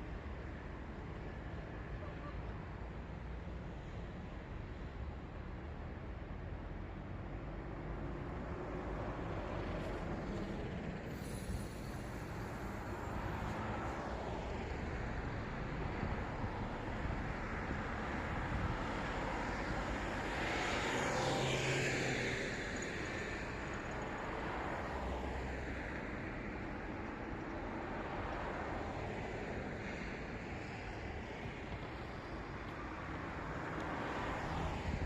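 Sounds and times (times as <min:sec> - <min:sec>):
city traffic noise: 0:00.0 - 0:35.0.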